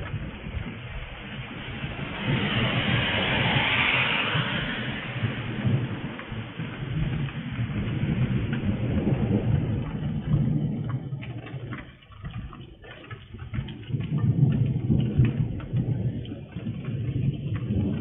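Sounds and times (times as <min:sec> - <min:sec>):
rain falling: 0:00.0 - 0:18.0
rolling thunder: 0:00.0 - 0:18.0.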